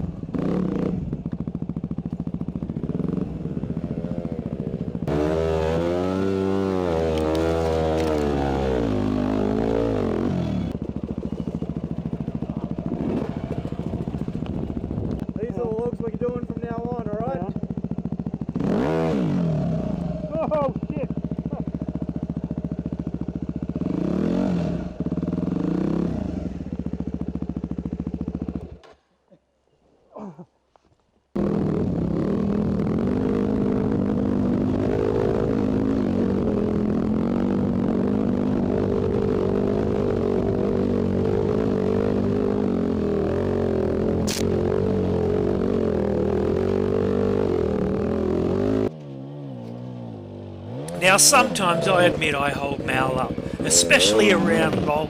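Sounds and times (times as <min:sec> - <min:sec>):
dirt bike engine revving: 0:00.0 - 0:28.8, 0:31.4 - 0:55.0.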